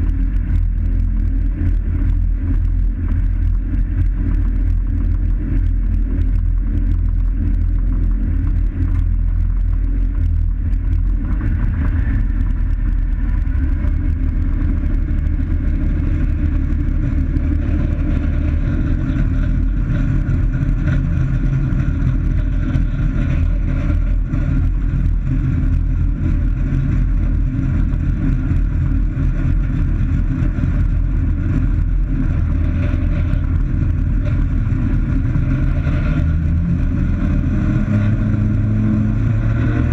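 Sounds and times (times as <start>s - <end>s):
plane engine droning: 0.0s - 39.9s.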